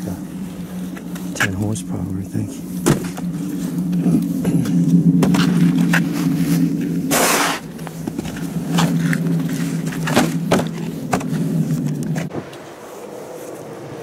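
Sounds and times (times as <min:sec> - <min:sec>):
loud rush of noise: 0:00.0 - 0:14.0
snowblower engine droning: 0:00.0 - 0:14.0.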